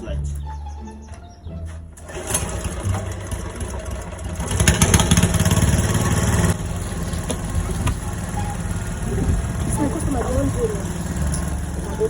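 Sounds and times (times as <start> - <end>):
petrol generator engine running: 1.5 - 12.0.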